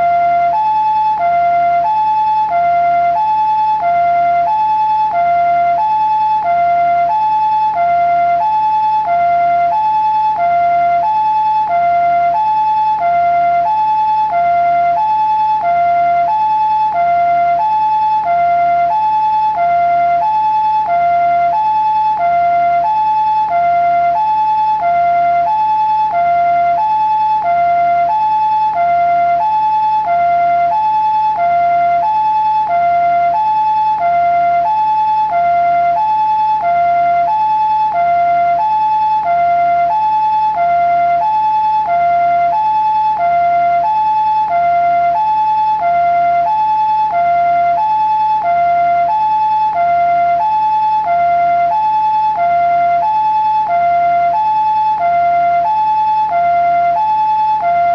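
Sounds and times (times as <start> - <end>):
two-tone ambulance siren: 0.0 - 57.9.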